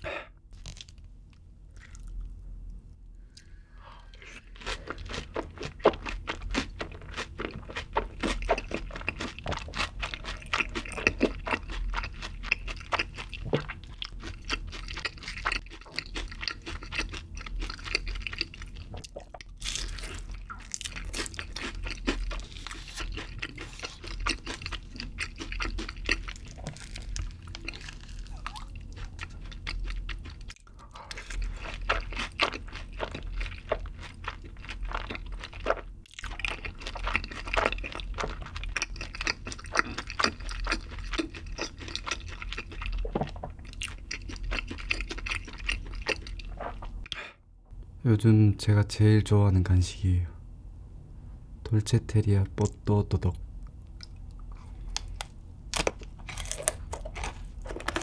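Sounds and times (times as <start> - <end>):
chewing fried chicken crunching: 0.5 - 1.0, 1.7 - 2.3, 4.1 - 47.1, 52.6 - 58.0.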